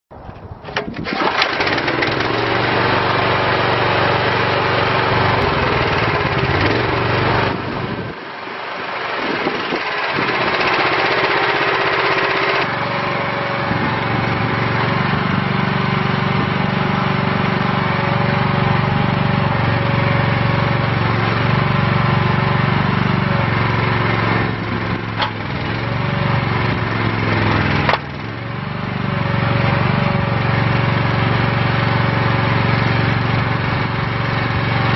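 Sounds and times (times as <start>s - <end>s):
small gasoline engine running: 0.8s - 34.9s.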